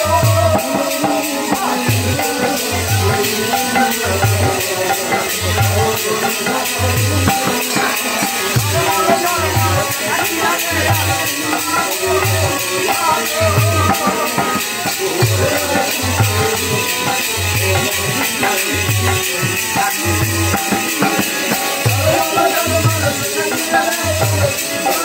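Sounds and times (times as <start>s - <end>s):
jingling hand cymbals: 0.0s - 25.0s
wavering melody: 0.0s - 25.0s.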